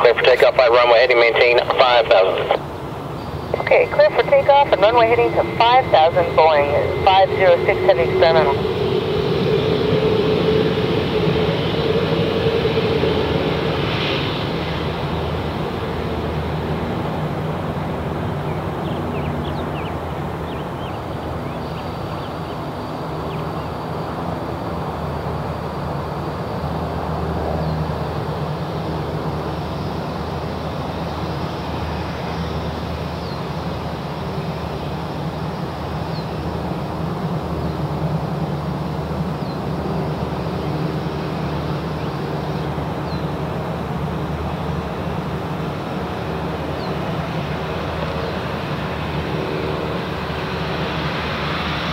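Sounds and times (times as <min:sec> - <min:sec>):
jet engines at takeoff power: 0:00.0 - 0:51.9.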